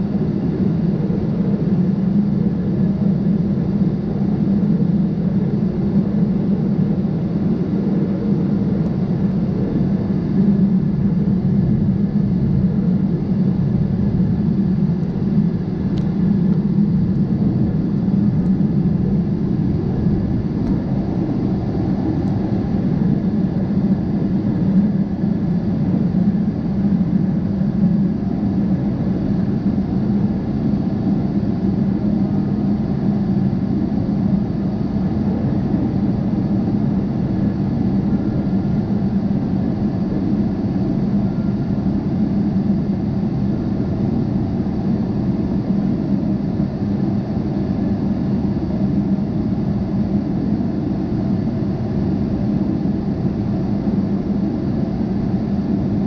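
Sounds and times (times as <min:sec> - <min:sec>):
jet airliner cabin drone: 0:00.0 - 0:56.0.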